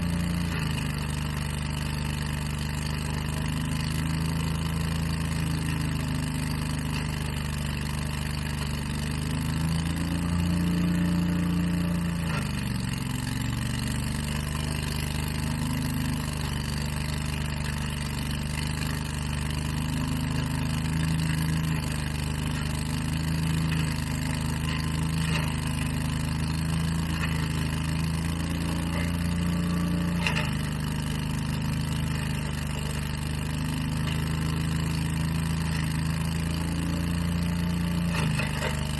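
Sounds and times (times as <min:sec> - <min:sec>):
power equipment engine running: 0:00.0 - 0:38.9.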